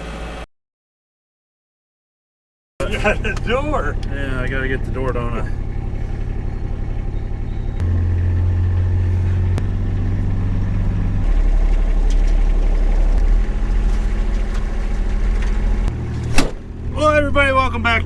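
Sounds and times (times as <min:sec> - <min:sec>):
vehicle engine drone: 0:02.8 - 0:18.0.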